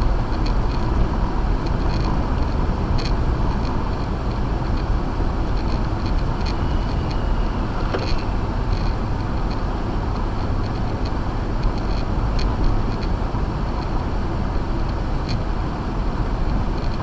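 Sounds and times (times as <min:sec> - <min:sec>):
car engine: 0:00.0 - 0:17.0
tyre and road noise rumble: 0:00.0 - 0:17.0.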